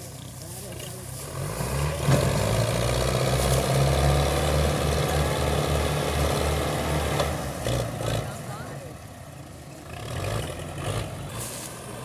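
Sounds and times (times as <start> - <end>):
tractor diesel engines under load: 0.0 - 12.0.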